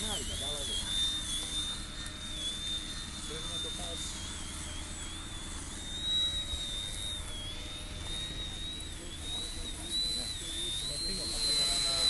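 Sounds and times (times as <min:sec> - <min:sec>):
model plane motor whining: 0:00.0 - 0:12.0.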